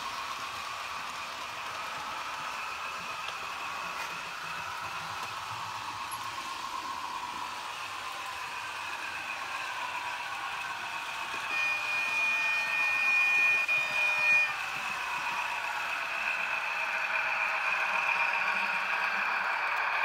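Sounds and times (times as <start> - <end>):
model trains rumbling on track: 0.0 - 20.0
steady high tone: 2.4 - 19.8.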